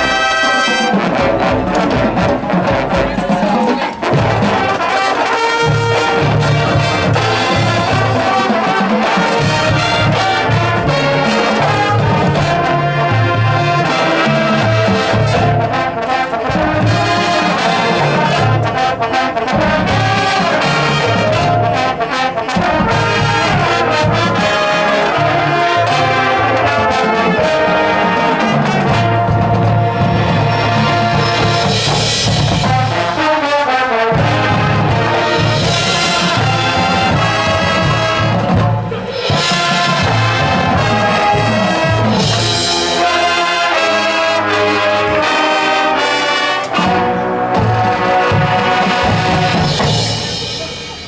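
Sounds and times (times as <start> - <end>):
brass section playing: 0.0 - 51.0
marching band playing: 0.0 - 51.0.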